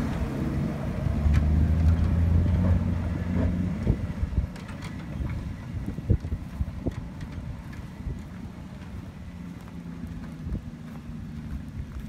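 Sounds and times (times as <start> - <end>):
car engine driving away: 0.0 - 12.0.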